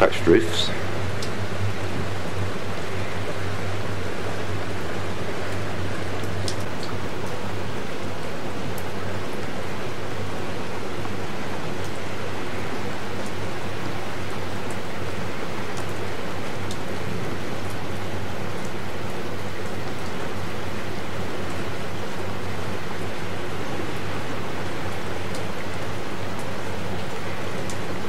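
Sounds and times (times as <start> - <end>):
boat engine hum: 0.0 - 28.0
rain hissing: 0.0 - 28.0.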